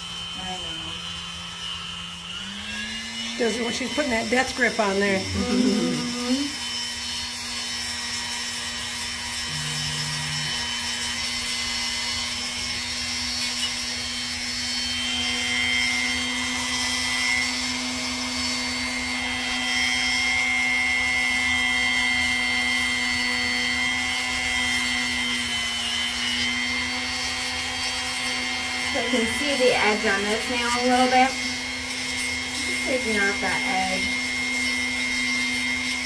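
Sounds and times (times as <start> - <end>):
rotary grinding tool whining: 0.0 - 36.0.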